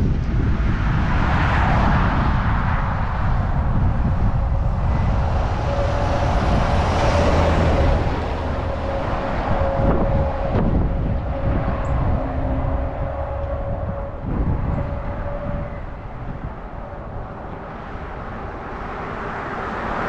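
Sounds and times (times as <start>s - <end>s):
combine engine rumble: 0.0s - 20.0s
steady whine: 2.8s - 20.0s.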